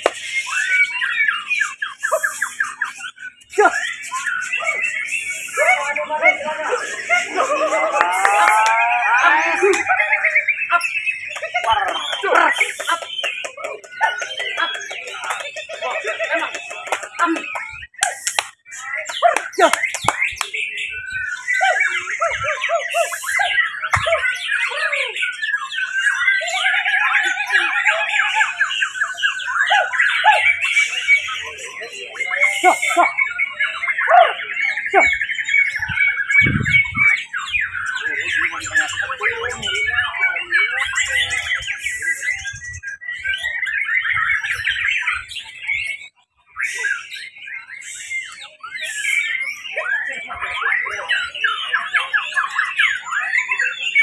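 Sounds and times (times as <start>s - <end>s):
birds singing whistles and trills: 0.0s - 54.0s.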